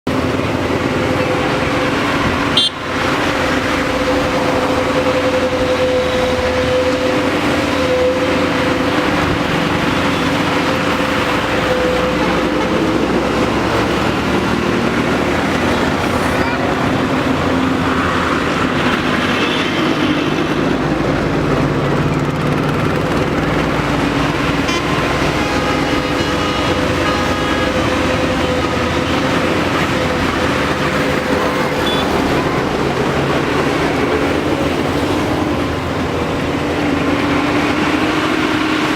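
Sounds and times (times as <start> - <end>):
backhoe diesel engine droning: 0.1 - 38.9.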